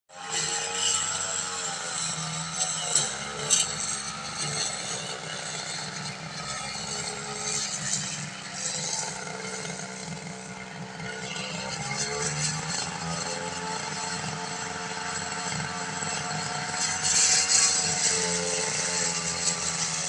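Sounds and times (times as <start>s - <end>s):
brush cutter engine running: 0.1s - 20.0s.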